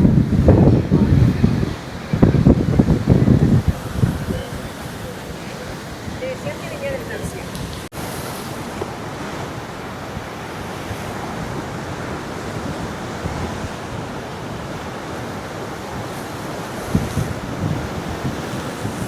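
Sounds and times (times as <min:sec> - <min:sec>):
sea waves washing onto shore: 0:00.0 - 0:19.0
wind on microphone: 0:00.0 - 0:19.0.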